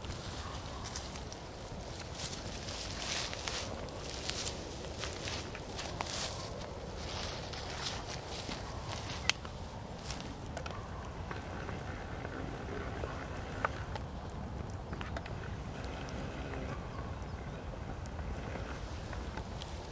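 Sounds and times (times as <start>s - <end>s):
fire crackling and popping: 0.0s - 19.9s
fire rushing: 0.9s - 19.9s.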